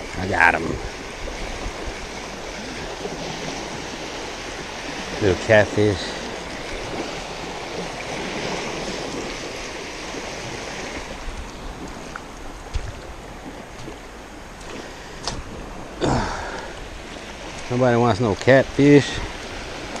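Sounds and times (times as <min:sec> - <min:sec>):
small waves lapping on sand: 0:00.0 - 0:20.0.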